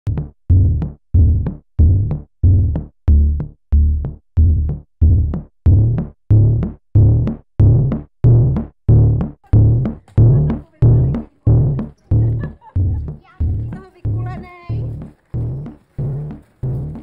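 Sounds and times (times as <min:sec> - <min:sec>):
deep bass note pulsing: 0:00.1 - 0:17.0.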